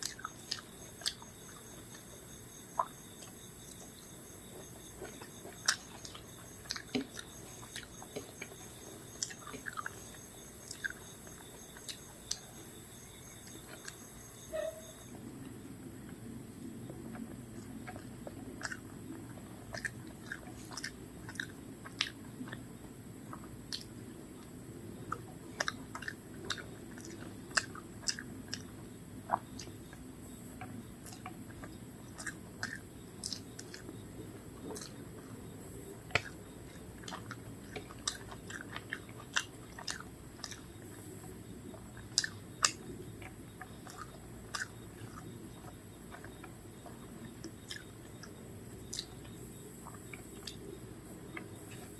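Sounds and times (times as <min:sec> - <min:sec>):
close chewing and mouth clicks: 0:00.0 - 0:51.9.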